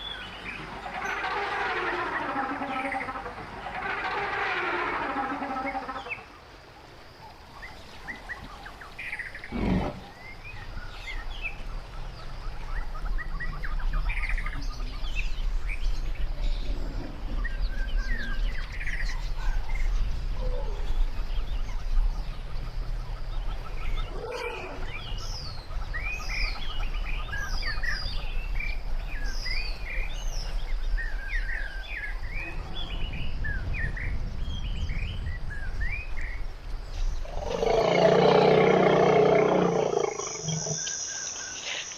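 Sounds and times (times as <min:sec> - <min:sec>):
birds chirping: 0:00.0 - 0:34.7, 0:35.8 - 0:41.9.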